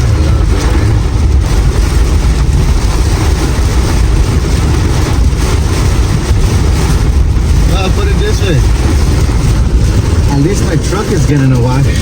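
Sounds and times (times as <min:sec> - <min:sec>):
deep rumble: 0:00.0 - 0:12.0
heavy rain pouring: 0:00.0 - 0:12.0.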